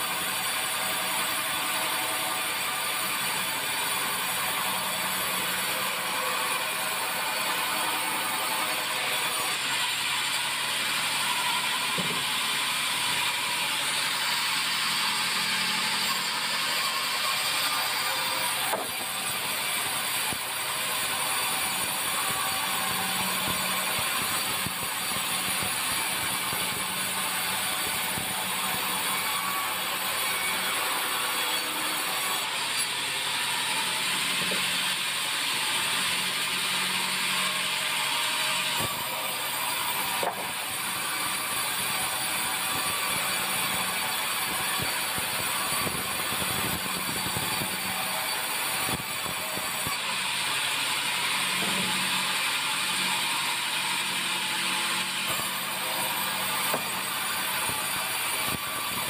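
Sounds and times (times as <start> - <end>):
band saw cutting log: 0.0 - 59.0.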